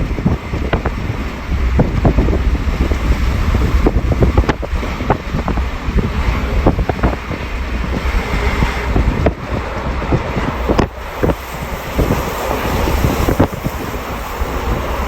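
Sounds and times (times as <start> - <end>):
passenger train rumbling: 0.0 - 15.0
train clicks and rattles: 0.0 - 15.0.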